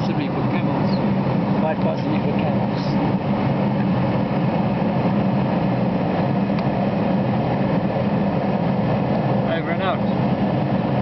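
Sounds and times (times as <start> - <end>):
jet airliner cabin hum: 0.0 - 11.0.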